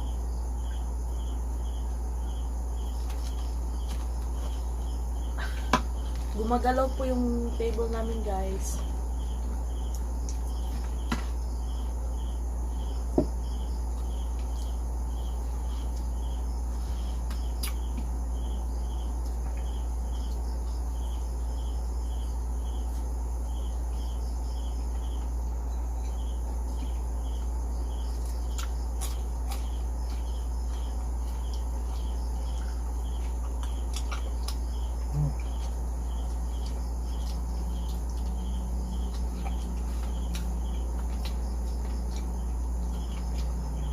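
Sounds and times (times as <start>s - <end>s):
crickets chirping: 0.0s - 43.9s
steady low hum: 0.0s - 43.9s.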